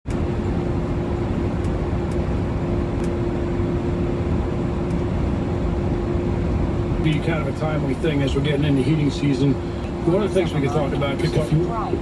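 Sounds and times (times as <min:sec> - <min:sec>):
low mechanical rumble: 0:00.1 - 0:12.0
mid-pitched hum: 0:00.1 - 0:12.0.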